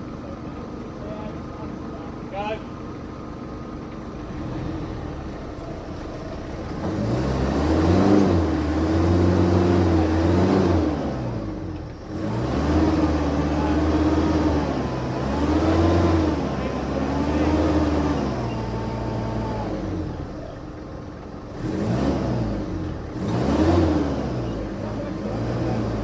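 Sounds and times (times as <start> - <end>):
off-road vehicle engine revving: 3.4 - 26.0.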